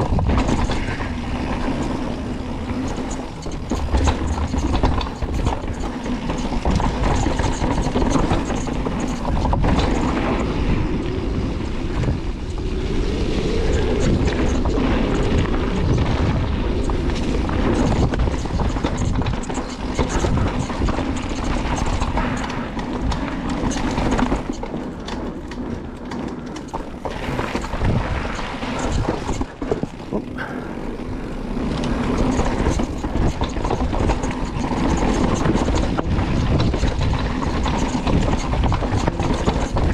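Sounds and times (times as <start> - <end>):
bike knocks and rattles: 0.0 - 39.9
tyres rolling on dirt: 0.0 - 39.9
wind rushing over microphone: 0.0 - 39.9.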